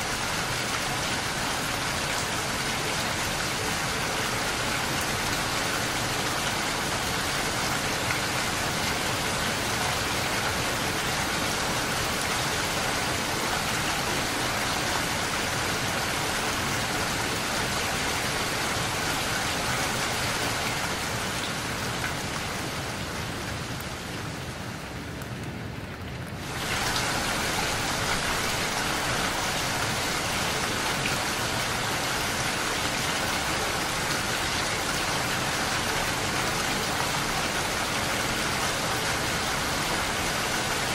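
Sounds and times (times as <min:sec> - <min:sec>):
rain pattering on a window: 0:00.0 - 0:40.9.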